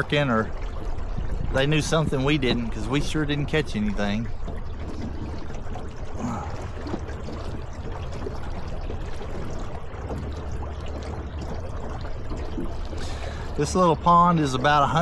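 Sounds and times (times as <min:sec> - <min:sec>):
water rushing along boat hull: 0:00.0 - 0:15.0.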